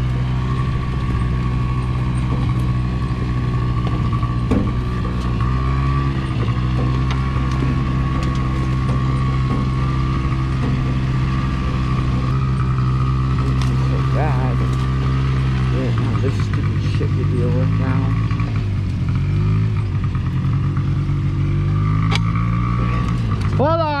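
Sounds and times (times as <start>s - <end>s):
atv engine idling: 0.0s - 24.0s.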